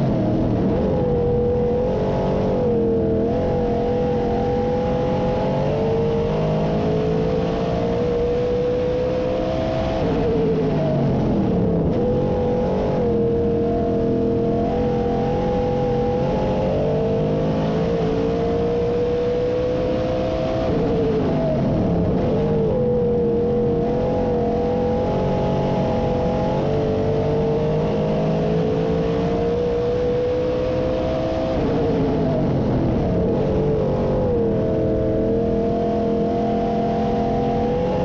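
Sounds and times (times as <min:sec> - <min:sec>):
race car engine at high revs: 0:00.0 - 0:38.0.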